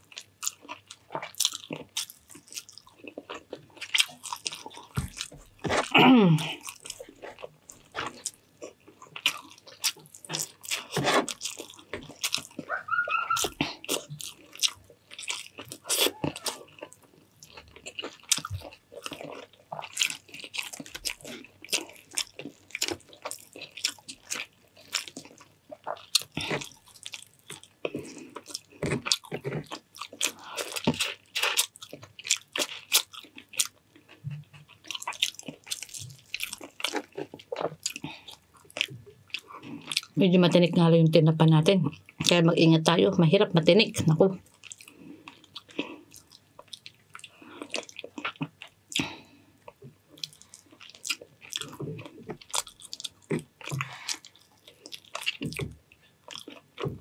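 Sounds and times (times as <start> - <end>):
wet chewing with crunches: 0.0 - 40.6, 43.6 - 57.0.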